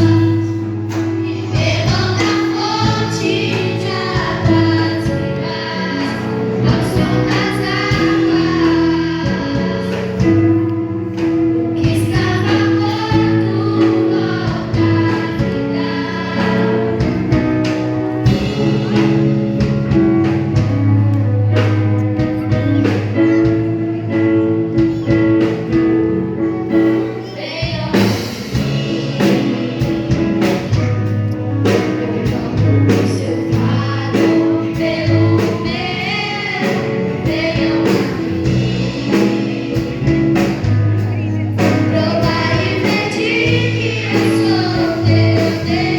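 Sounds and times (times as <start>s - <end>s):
choir singing gospel song: 0.0s - 20.6s, 27.2s - 45.9s
instrumental backing: 0.0s - 45.9s.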